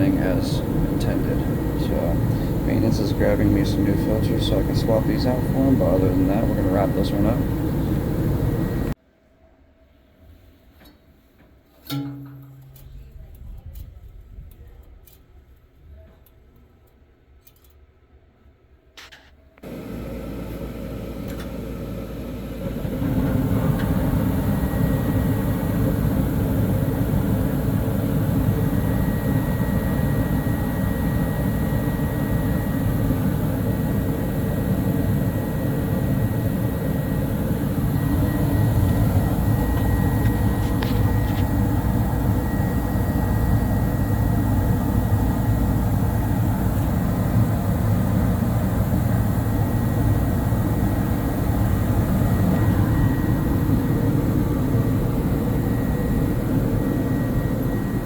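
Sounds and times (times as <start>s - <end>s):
furnace motor: 0.0s - 9.0s, 19.6s - 58.0s
faint steady whine: 0.0s - 11.4s, 18.4s - 58.0s.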